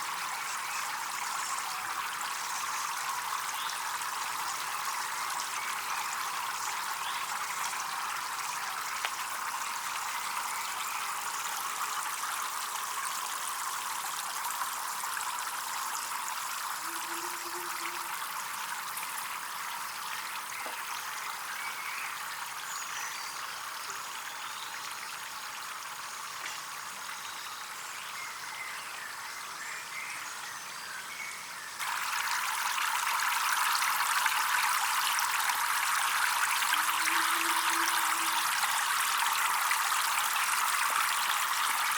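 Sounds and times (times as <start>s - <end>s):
water trickling: 0.0s - 28.5s, 31.8s - 41.9s.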